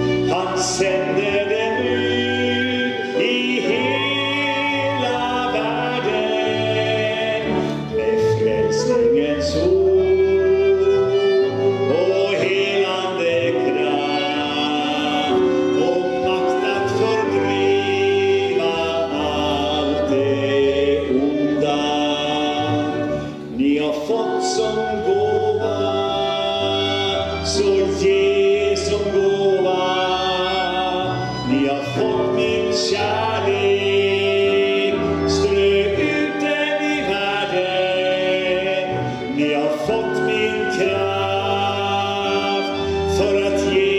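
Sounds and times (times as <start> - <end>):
flute: 0.0 - 43.9
person singing: 0.0 - 43.9
violin: 0.0 - 43.9.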